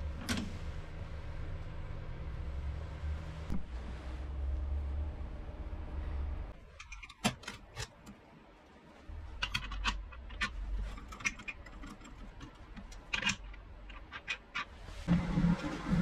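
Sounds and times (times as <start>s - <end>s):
low hum: 0.0s - 6.7s, 8.3s - 16.0s.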